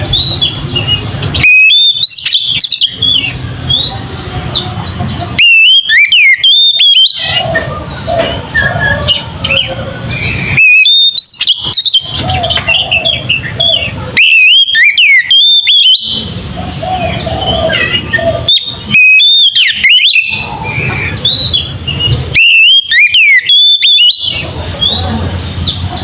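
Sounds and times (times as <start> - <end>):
bird singing whistled phrases: 0.0 - 26.0
quiet bird chirping: 0.0 - 26.0.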